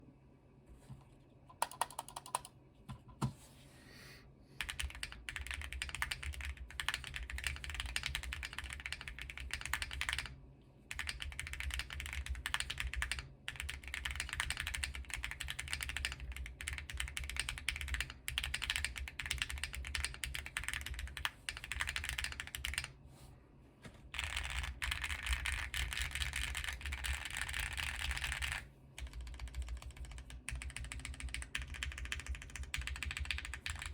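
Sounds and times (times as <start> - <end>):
mechanical keyboard typing: 1.5 - 2.5, 4.6 - 22.9, 24.1 - 33.9.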